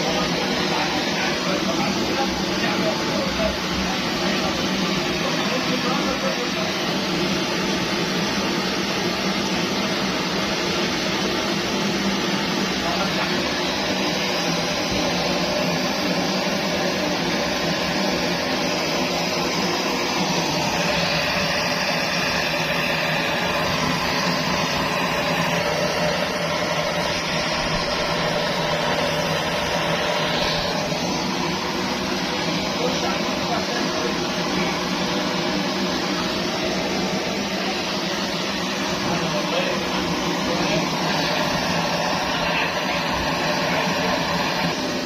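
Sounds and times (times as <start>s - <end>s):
stove burning with rushing noise: 0.0s - 45.0s.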